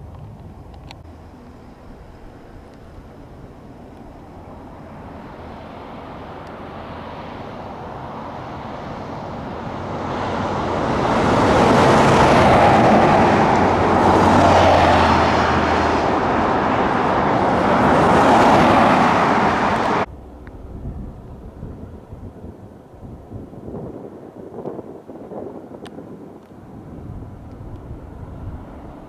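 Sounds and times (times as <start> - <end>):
airplane flying low: 0.0 - 29.0.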